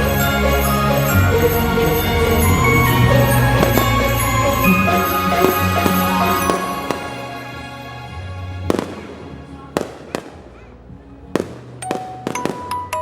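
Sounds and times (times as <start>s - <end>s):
soft instrumental music: 0.0s - 13.0s
fireworks exploding: 1.3s - 13.0s.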